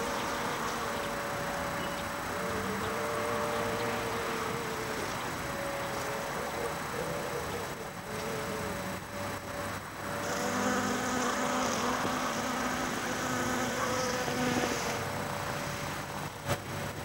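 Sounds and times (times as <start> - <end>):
honeybee buzzing: 0.0 - 16.5.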